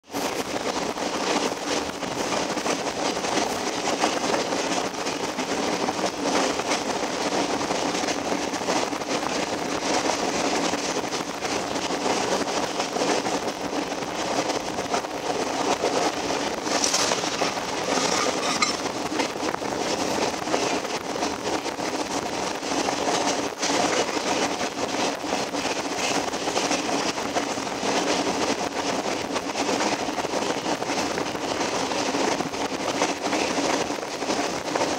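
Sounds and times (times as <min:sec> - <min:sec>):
train wheels on rails: 0:00.0 - 0:34.9.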